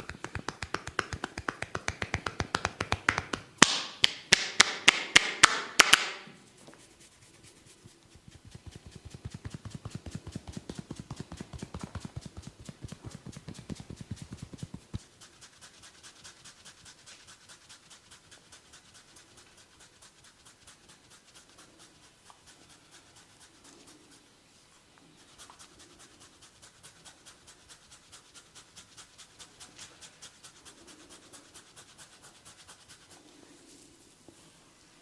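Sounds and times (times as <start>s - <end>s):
fingers scratching hair: 0.0s - 3.5s, 6.6s - 24.3s, 25.2s - 33.9s.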